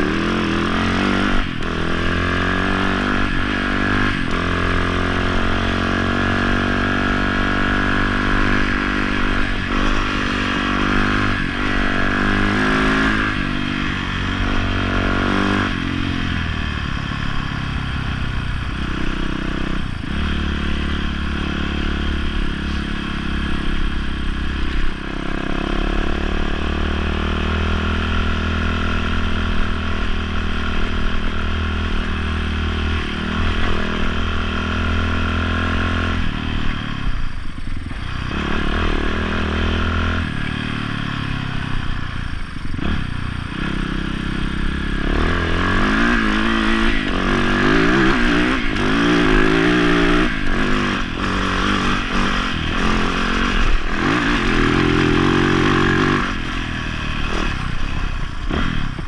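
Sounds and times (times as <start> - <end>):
dirt bike engine: 0.0 - 59.0.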